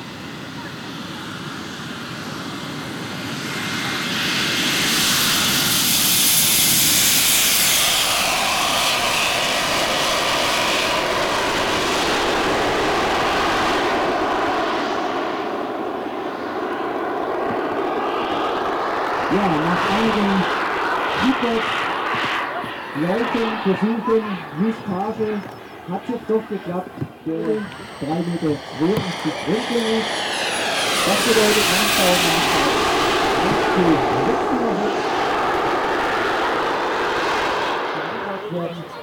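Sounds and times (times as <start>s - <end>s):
model jet turbines roaring: 0.0s - 39.0s.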